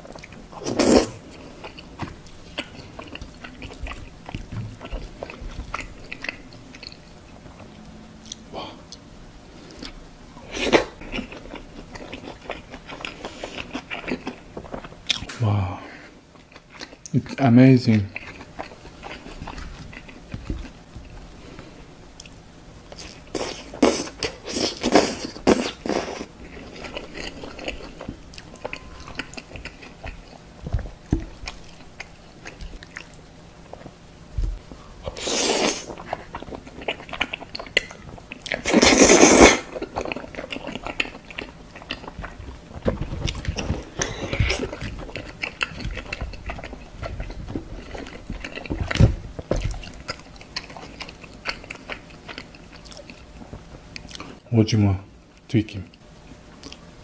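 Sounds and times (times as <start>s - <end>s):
chewing and biting rice cakes: 0.0s - 9.0s, 9.6s - 15.4s, 18.1s - 21.3s, 22.2s - 54.4s.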